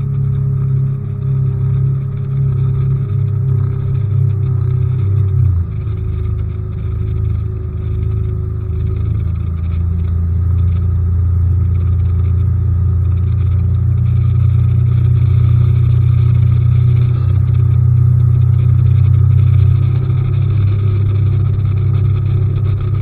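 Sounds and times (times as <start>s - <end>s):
outboard motor drone: 0.0s - 23.0s.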